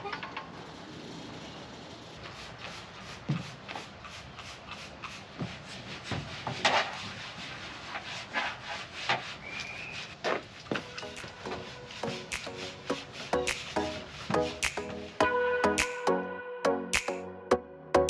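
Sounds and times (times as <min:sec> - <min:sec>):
rubbing and scraping handling noises: 0:00.0 - 0:15.2.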